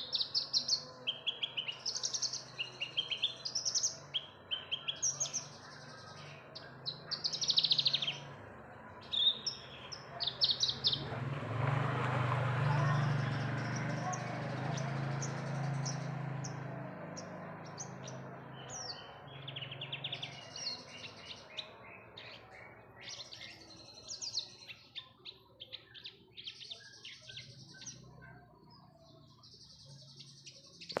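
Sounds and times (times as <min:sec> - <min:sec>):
lark singing chirps and trills: 0:00.0 - 0:11.2, 0:12.7 - 0:31.0.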